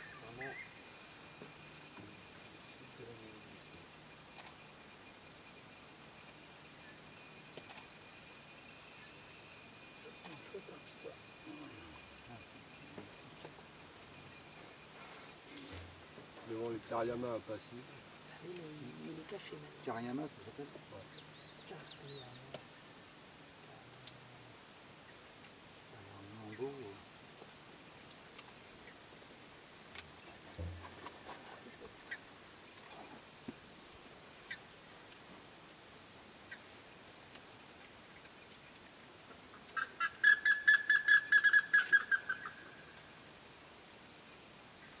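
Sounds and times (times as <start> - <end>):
high-pitched insect drone: 0.0 - 45.0
short insect chirp: 0.0 - 45.0.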